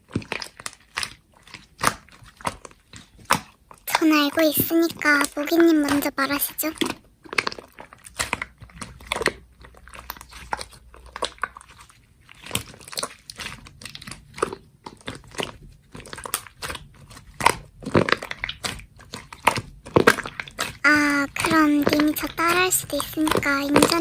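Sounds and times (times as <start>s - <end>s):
slime crackling and popping: 0.0s - 24.0s.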